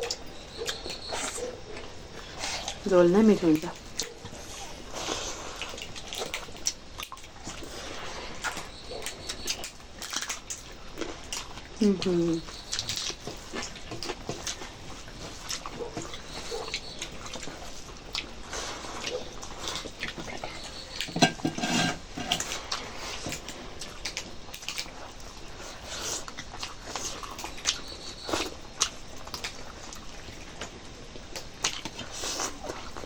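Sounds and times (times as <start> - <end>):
close chewing sounds: 0.0 - 33.0.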